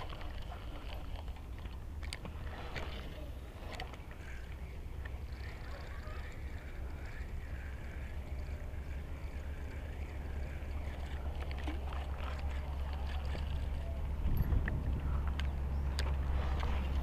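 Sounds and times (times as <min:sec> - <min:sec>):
fishing reel clicks and rustles: 0:00.0 - 0:17.0
wind rumbling on microphone: 0:00.0 - 0:17.0.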